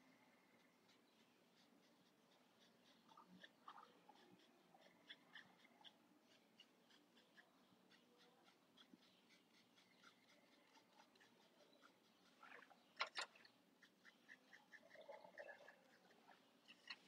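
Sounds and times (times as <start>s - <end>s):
paintbrush scratching on paper: 0.6s - 17.0s.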